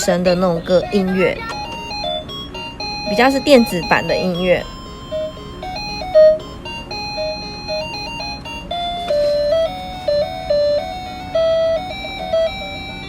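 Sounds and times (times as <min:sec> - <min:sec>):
electronic toy melody: 0:00.0 - 0:13.0.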